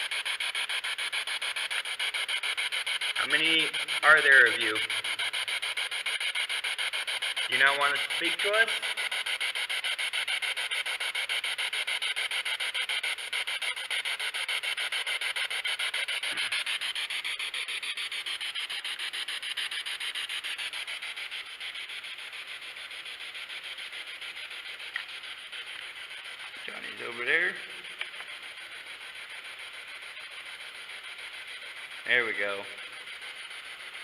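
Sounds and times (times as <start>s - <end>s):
pulsing radio static hiss: 0.0s - 34.0s.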